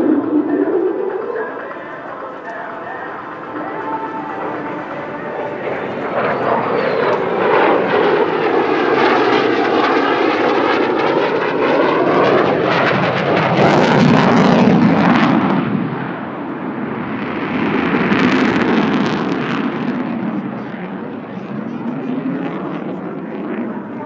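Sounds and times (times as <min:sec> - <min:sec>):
jet engine passing: 0:00.0 - 0:24.0.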